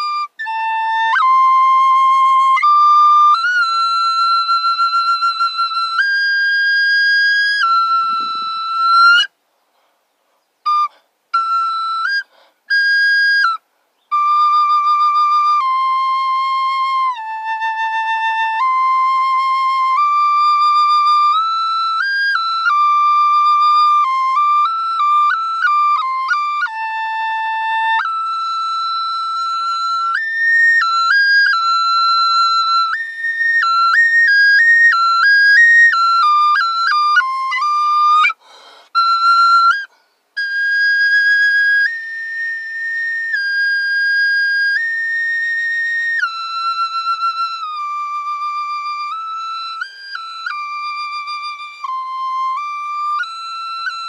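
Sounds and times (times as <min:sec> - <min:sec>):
end-blown flute melody: 0:00.0 - 0:09.3, 0:10.7 - 0:54.0.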